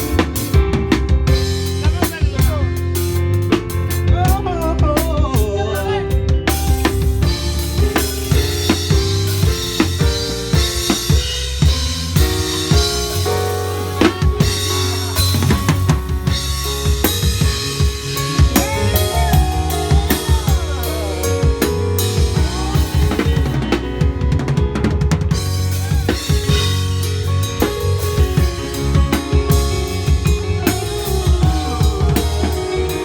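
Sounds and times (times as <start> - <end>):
band playing: 0.0 - 33.0
drum kit with snare and rimshots: 0.0 - 33.0
held bass notes: 0.0 - 33.0.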